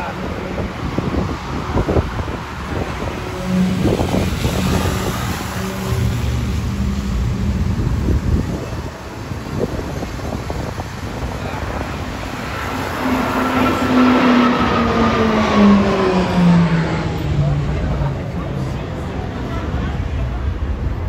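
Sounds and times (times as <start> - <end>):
propeller aircraft flying over: 0.0 - 20.9.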